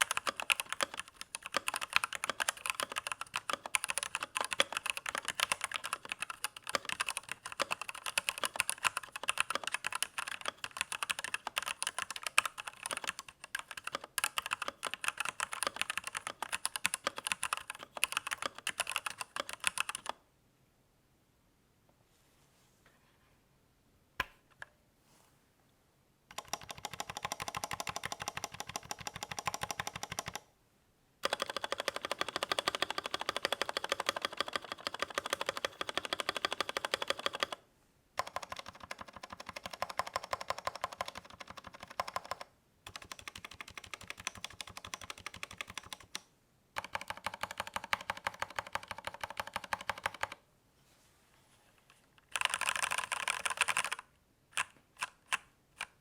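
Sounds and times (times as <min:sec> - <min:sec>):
mechanical keyboard typing: 0:00.0 - 0:20.2, 0:26.3 - 0:30.5, 0:31.2 - 0:37.6, 0:38.2 - 0:50.4, 0:52.2 - 0:56.0.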